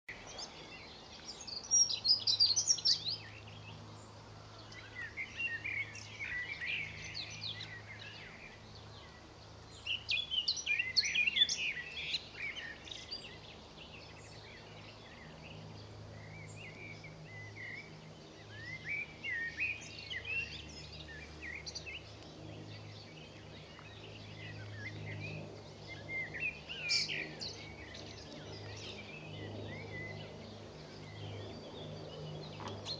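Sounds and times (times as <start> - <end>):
songbirds chirping and singing: 0.1 - 32.9.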